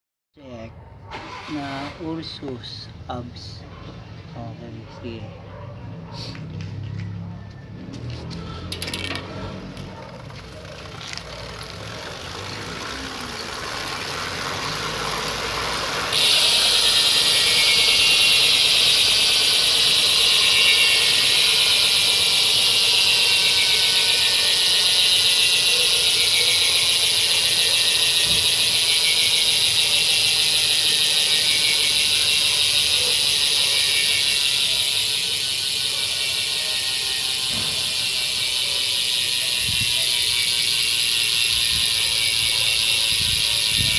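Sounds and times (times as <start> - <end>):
bicycle hub freewheel buzz: 7.9 - 43.9.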